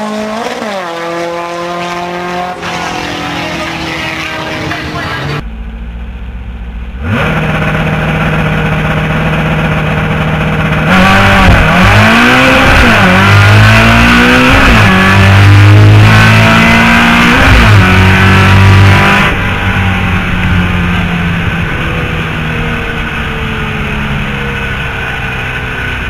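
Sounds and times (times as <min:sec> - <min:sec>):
drag racing car engine revving: 0:00.0 - 0:26.0.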